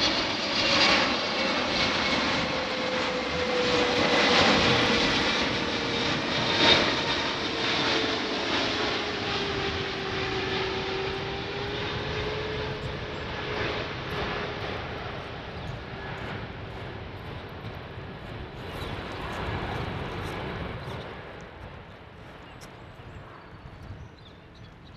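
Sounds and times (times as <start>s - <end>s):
jet engines passing: 0.0s - 24.9s.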